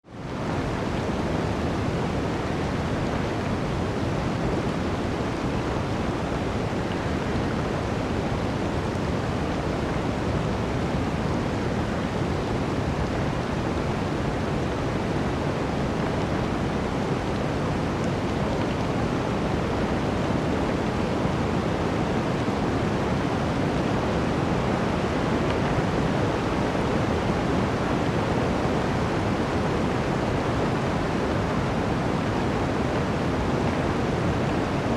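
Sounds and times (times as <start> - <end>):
blizzard wind through forest: 0.0 - 34.9.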